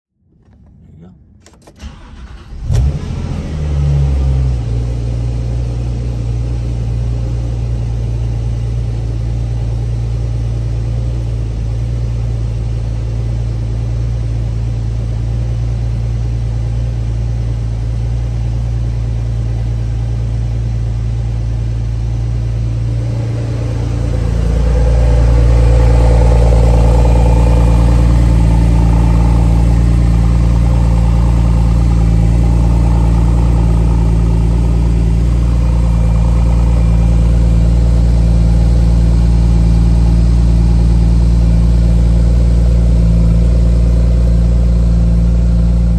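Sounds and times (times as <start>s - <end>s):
car engine idling: 0.3s - 45.9s.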